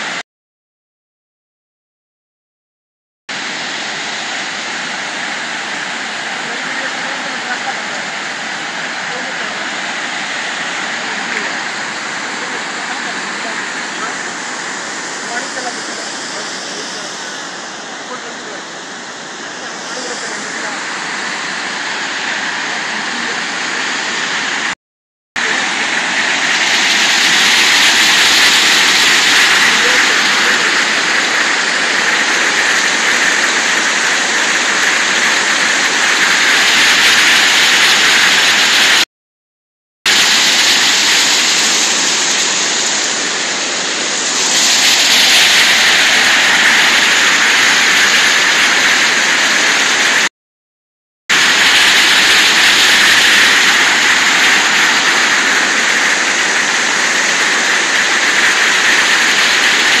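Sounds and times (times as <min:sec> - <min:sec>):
river water pouring over a weir: 0:03.3 - 0:24.7, 0:25.4 - 0:39.0, 0:40.1 - 0:50.3, 0:51.3 - 1:00.0.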